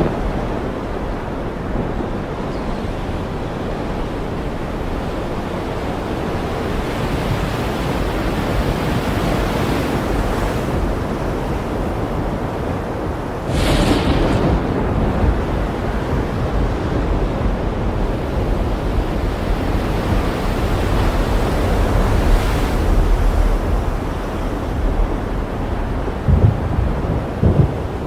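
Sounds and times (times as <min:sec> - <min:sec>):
ocean waves washing in: 0:00.0 - 0:28.0.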